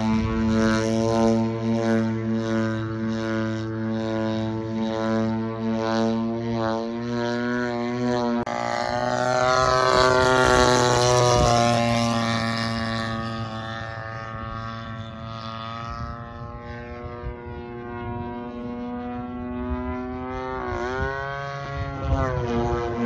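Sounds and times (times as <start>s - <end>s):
model plane engine droning: 0.0s - 23.0s.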